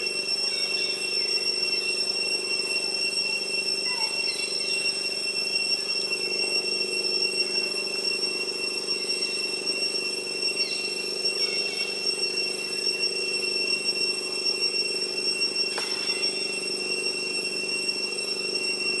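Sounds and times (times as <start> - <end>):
faint chirps: 0.0 - 19.0
high-pitched whine: 0.0 - 19.0
low buzzing drone: 0.0 - 19.0.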